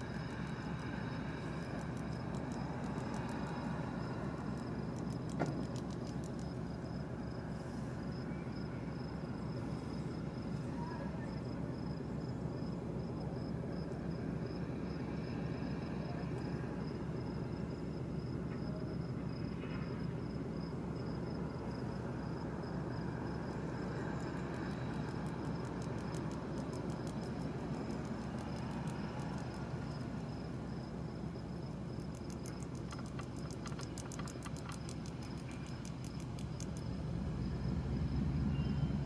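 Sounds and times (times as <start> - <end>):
insect trill: 0.0 - 39.0.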